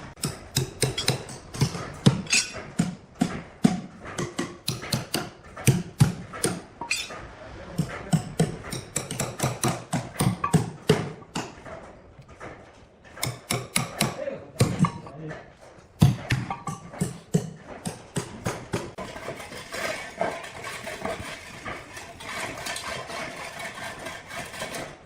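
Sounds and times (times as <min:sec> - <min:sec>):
sharp wooden knocks and clacks: 0:00.0 - 0:24.9.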